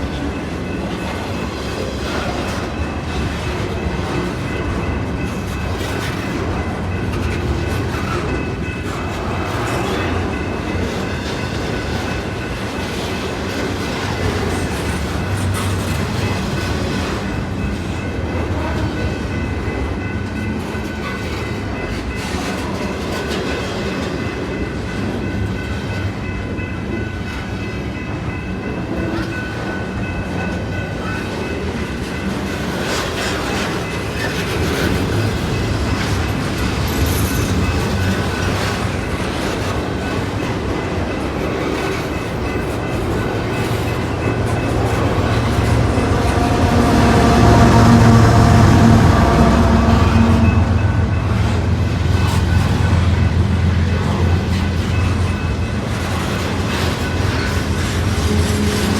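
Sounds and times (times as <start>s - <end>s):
clickety-clack over rail joints: 0.0s - 58.9s
train wheels rumbling on rail: 0.0s - 58.9s.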